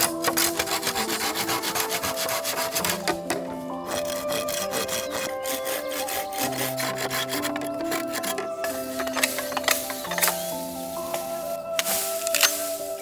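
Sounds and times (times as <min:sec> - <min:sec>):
hand saw cutting bamboo: 0:00.0 - 0:13.0.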